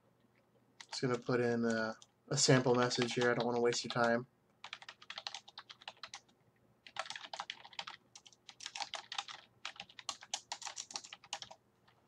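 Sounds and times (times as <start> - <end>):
computer keyboard typing: 0.8 - 12.0.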